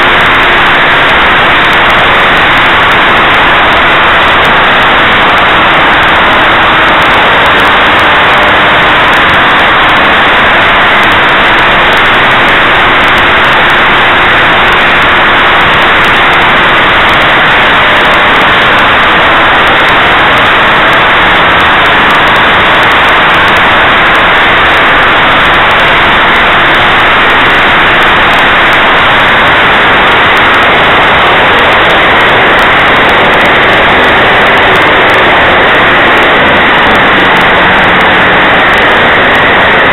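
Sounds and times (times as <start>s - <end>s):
model aircraft engine: 0.0s - 39.9s
wind rush on microphone: 0.0s - 39.9s.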